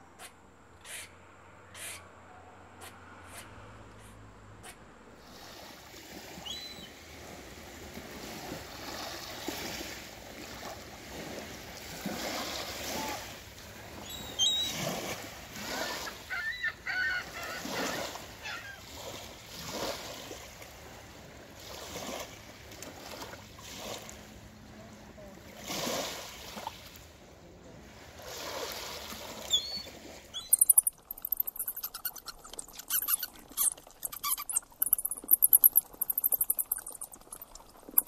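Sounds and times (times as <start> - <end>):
small waves lapping on shore: 5.2 - 38.0.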